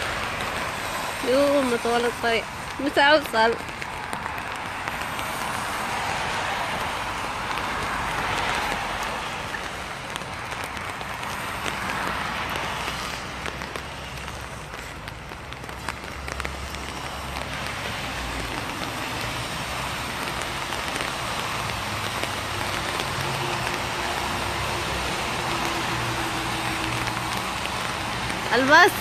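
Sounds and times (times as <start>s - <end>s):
rain falling: 0.0s - 29.0s
road traffic rumble: 0.0s - 29.0s.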